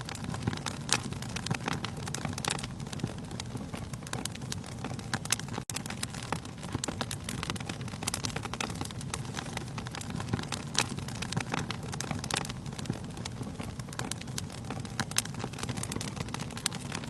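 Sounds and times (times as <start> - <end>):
low rumble of flame: 0.0 - 17.0
wood fire crackling: 0.0 - 17.0.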